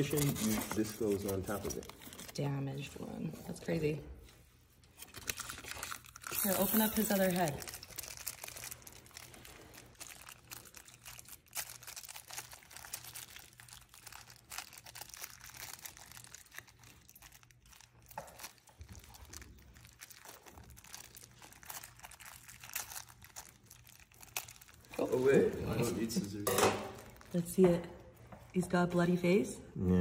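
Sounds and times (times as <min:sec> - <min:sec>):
plastic wrapping crinkling: 0:00.0 - 0:03.0, 0:03.6 - 0:29.0.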